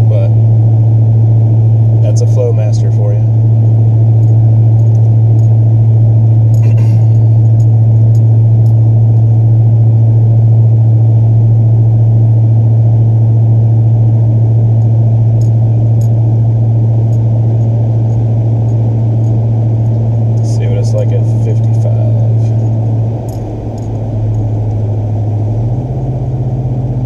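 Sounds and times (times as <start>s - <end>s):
low exhaust drone: 0.0s - 27.0s.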